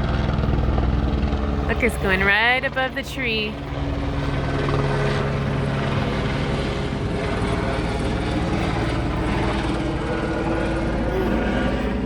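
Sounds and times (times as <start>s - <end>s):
helicopter rotor beating overhead: 0.0s - 12.0s.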